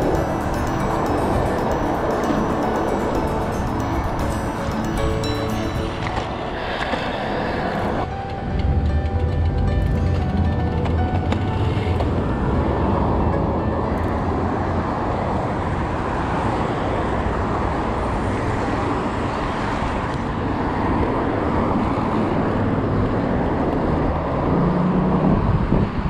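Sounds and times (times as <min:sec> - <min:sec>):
traffic: 0:00.0 - 0:26.0
wind and road noise: 0:00.0 - 0:26.0.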